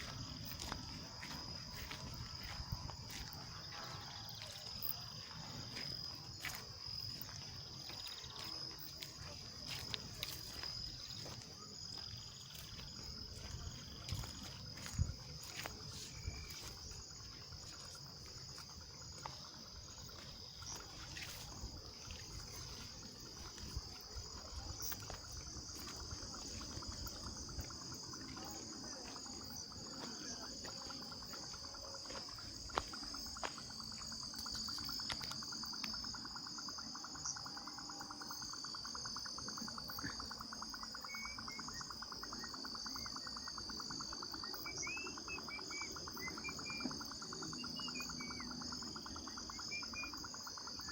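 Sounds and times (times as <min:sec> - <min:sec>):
crickets chirring: 0:00.0 - 0:50.9
low fast-pulsing insect trill: 0:00.0 - 0:50.9.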